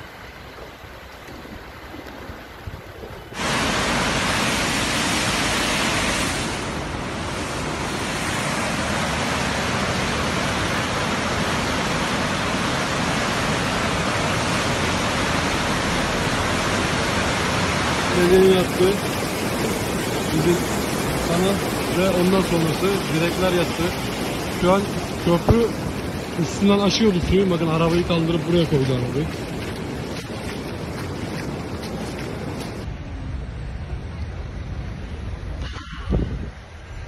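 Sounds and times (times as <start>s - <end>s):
floodwater rushing down a channel: 0.0s - 35.9s.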